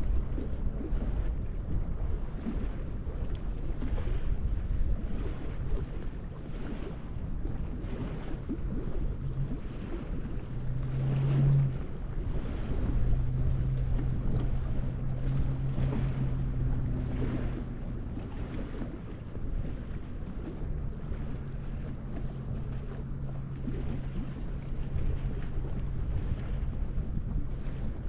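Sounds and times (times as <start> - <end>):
low engine hum: 0.0 - 28.0
water lapping against shore: 0.0 - 28.0
wind buffeting microphone: 0.0 - 28.0.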